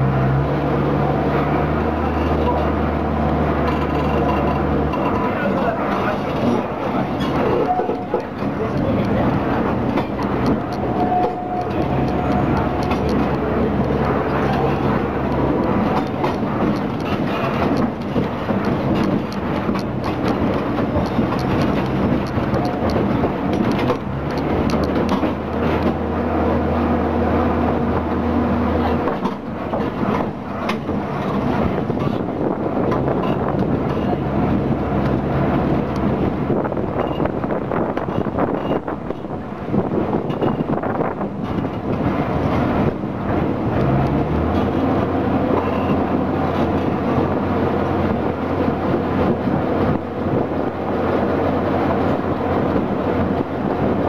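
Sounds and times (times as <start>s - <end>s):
diesel engine droning: 0.0s - 54.0s
tram cars rumbling on rails: 0.0s - 54.0s.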